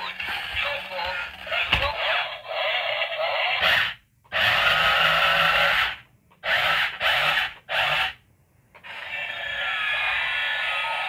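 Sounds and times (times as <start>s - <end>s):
toy electric motors whirring: 0.0s - 8.2s, 8.8s - 11.0s.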